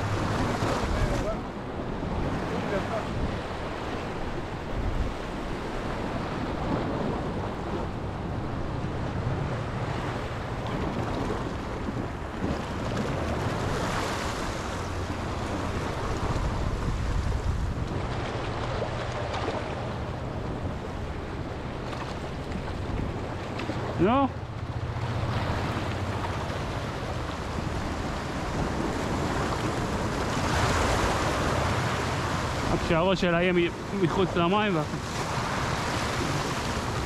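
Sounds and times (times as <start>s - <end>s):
sea waves: 0.0s - 37.0s
wind buffeting microphone: 0.0s - 37.0s.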